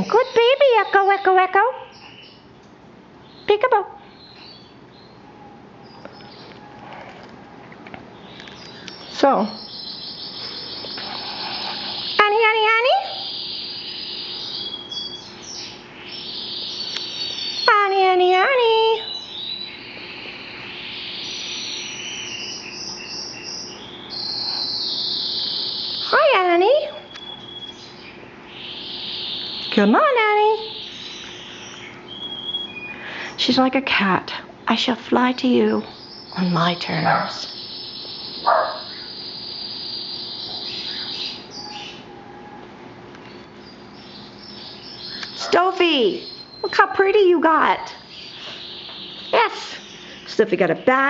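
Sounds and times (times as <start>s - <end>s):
canaries singing: 0.0s - 51.0s.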